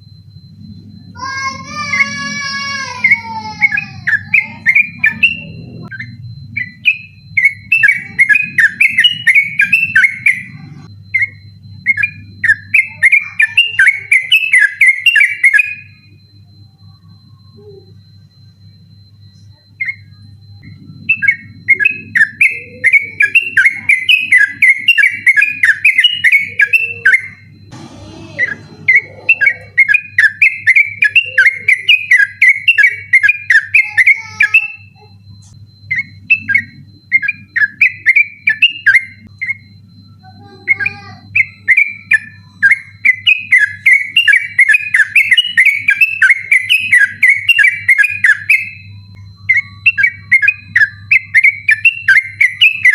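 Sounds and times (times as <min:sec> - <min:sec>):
steady low hum: 0:00.0 - 0:52.9
bird chattering whistled song: 0:03.0 - 0:16.0, 0:19.8 - 0:27.5, 0:28.3 - 0:35.2, 0:35.8 - 0:52.9.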